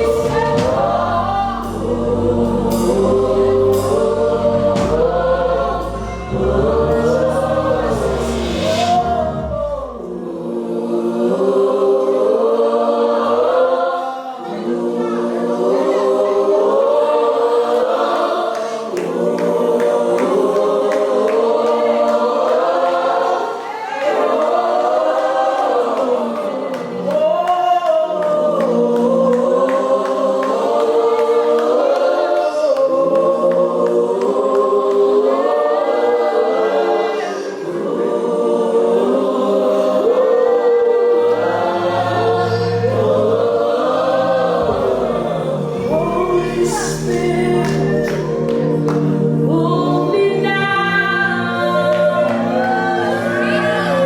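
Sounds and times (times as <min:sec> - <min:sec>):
choir singing gospel song: 0:00.0 - 0:54.0.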